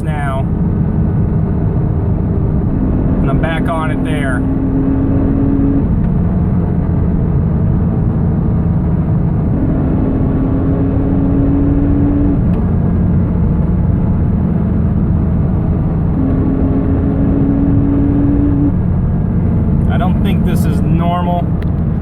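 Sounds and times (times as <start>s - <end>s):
car engine and road noise: 0.0s - 22.0s
transmission whine: 0.0s - 22.0s.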